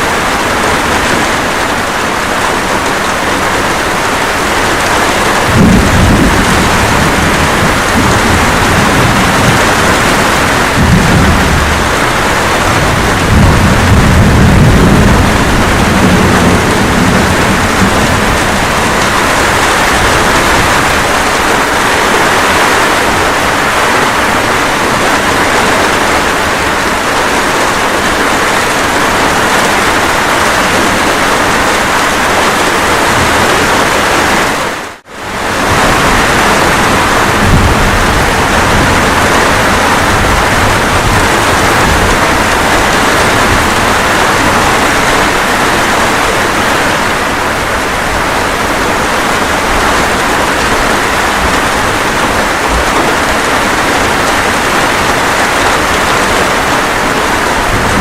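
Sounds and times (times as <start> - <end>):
dense rain falling: 0.0 - 58.0
thunder rumbling: 0.0 - 58.0.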